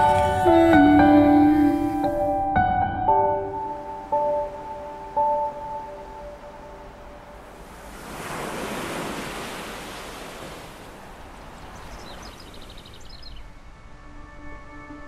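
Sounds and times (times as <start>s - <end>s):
ocean waves breaking: 0.0s - 13.8s.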